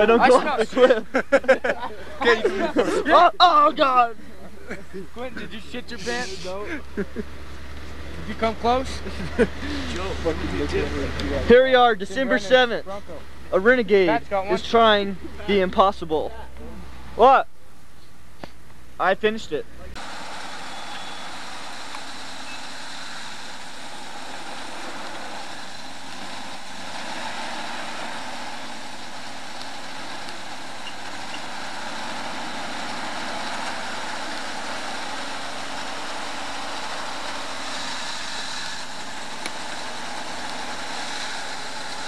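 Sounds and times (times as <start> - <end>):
vehicle engine running at low speed: 0.0 - 42.0.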